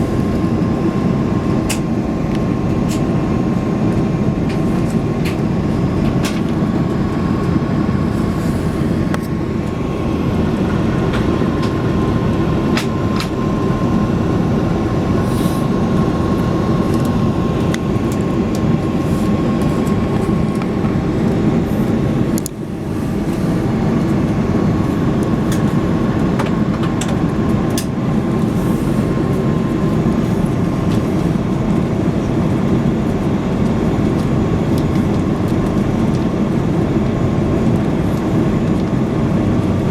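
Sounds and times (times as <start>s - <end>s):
airliner engine rumble: 0.0s - 39.9s
faint steady whine: 0.0s - 39.9s.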